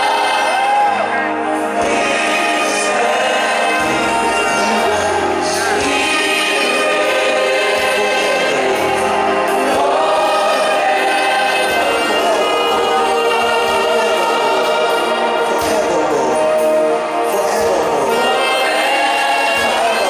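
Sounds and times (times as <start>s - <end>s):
backing singers: 0.0s - 20.0s
band accompaniment: 0.0s - 20.0s
saxophone: 0.0s - 20.0s.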